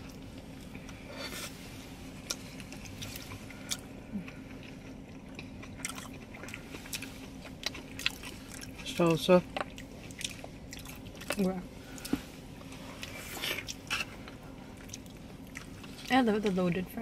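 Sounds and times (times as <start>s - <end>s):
faint low hum: 0.0s - 17.0s
chewing and biting: 2.2s - 16.1s.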